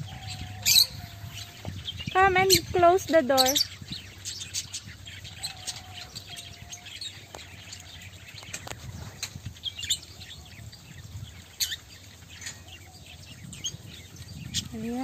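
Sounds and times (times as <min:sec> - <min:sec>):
parakeets chirping: 0:00.0 - 0:15.0.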